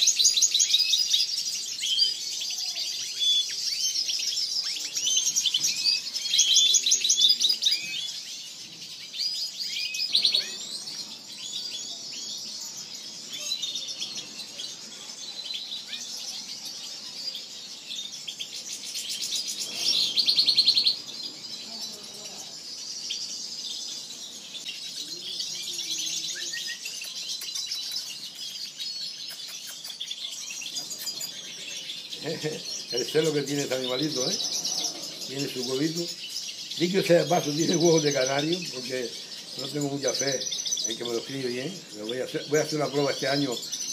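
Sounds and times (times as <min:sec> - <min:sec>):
finches chirping and singing: 0:00.0 - 0:43.9.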